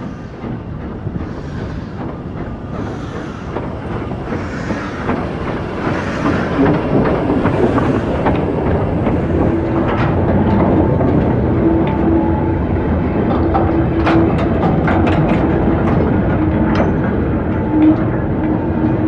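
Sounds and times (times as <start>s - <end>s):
train rumbling: 0.0s - 19.0s
train wheels clicking: 0.0s - 19.0s.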